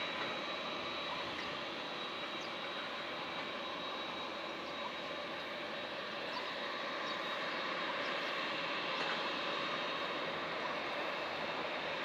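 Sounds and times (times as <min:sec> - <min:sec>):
distant turboprop engines: 0:00.0 - 0:12.0.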